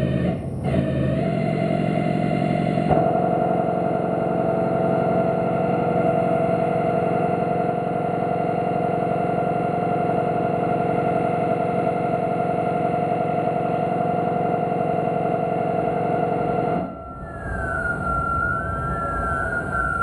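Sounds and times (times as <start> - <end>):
electronic noise drone: 0.0 - 20.0.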